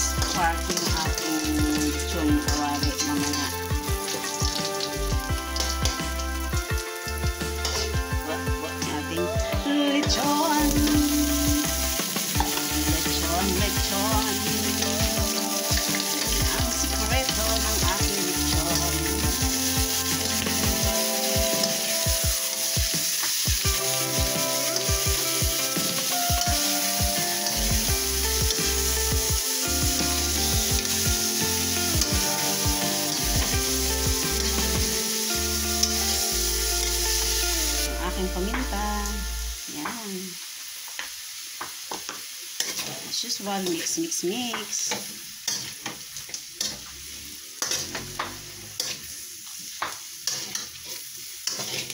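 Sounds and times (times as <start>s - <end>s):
utensil scraping and knocking wok: 0.0s - 38.9s, 40.8s - 51.9s
meat sizzling in a wok: 0.0s - 51.9s.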